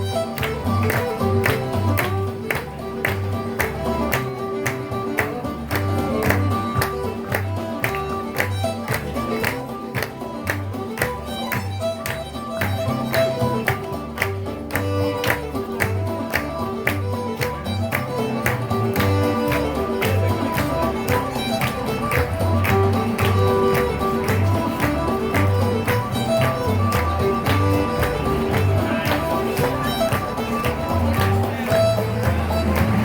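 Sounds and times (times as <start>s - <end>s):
fiddle playing a reel: 0.0s - 33.0s
guitar accompaniment: 0.0s - 33.0s.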